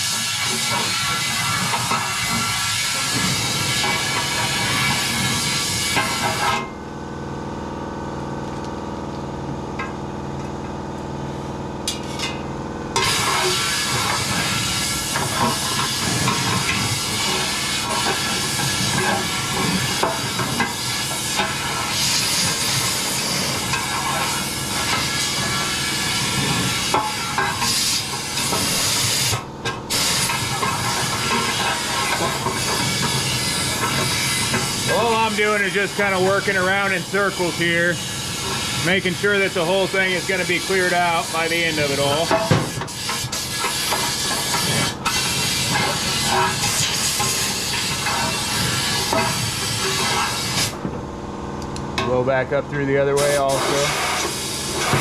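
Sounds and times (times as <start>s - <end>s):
air blow gun hissing: 0.0s - 6.5s, 13.0s - 50.8s, 53.1s - 55.0s
steady hum: 0.0s - 55.0s.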